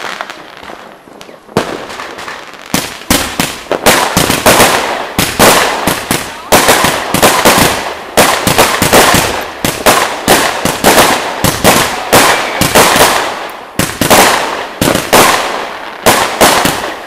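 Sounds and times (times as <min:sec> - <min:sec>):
fireworks bangs echoing: 0:00.0 - 0:17.0.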